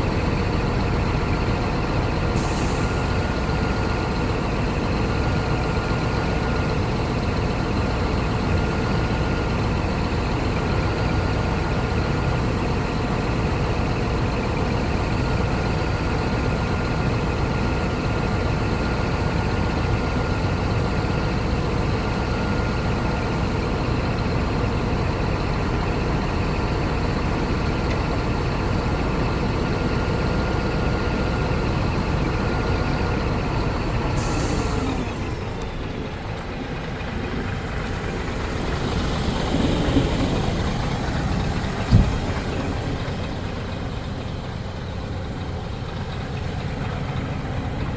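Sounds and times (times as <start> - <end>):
truck diesel engine idling: 0.0 - 47.9.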